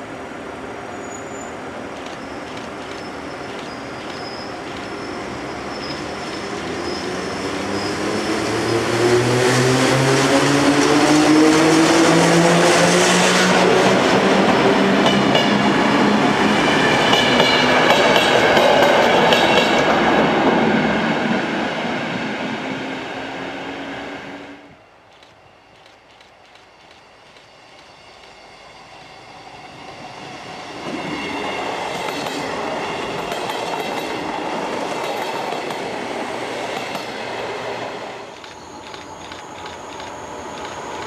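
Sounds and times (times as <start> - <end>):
train wheels rumbling on rails: 1.4 - 24.0, 25.0 - 41.0.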